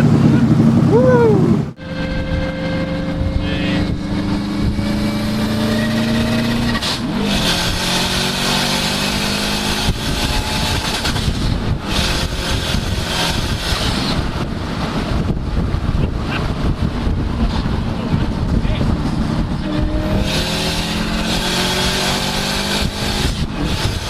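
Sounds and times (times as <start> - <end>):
car engine pulling hard: 0.0 - 24.0
rush of tyres and sand: 1.8 - 24.0.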